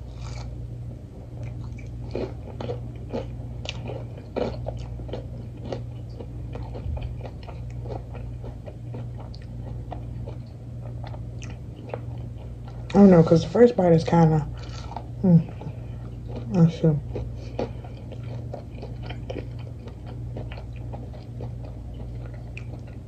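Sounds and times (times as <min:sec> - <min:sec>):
chewing crunches: 0:00.1 - 0:00.6, 0:01.3 - 0:13.0, 0:14.6 - 0:23.0.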